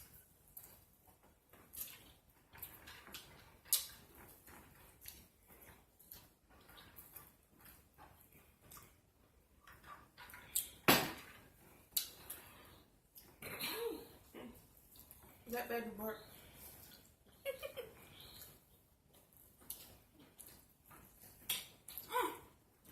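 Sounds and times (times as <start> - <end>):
chewing: 0.0 - 15.5, 16.2 - 22.9.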